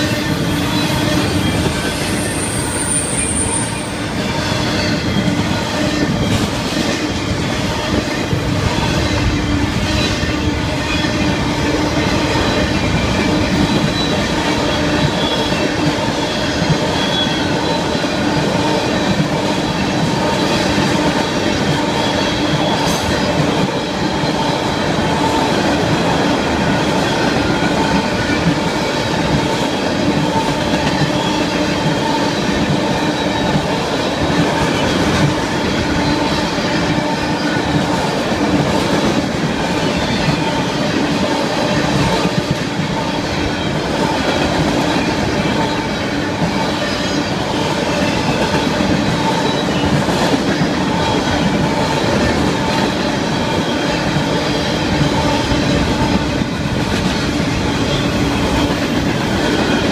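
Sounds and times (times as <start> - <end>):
freight train rolling past: 0.0 - 59.9
steel wheels squealing on rails: 0.0 - 59.9.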